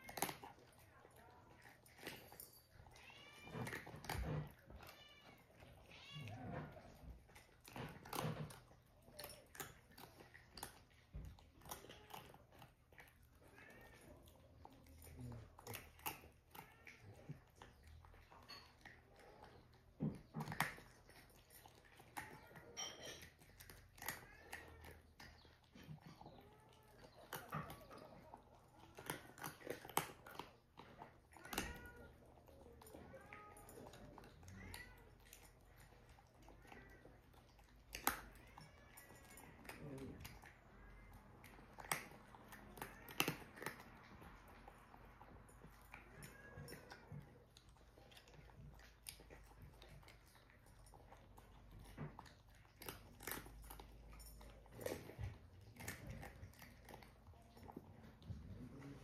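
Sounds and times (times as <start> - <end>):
cat crunching dry kibble: 0.0 - 59.0.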